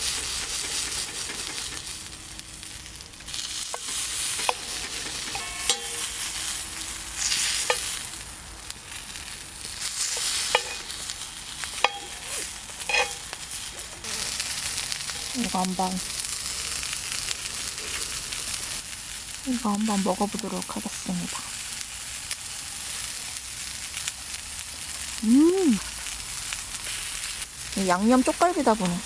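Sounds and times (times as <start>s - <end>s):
ribs sizzling in pan: 0.0s - 29.0s.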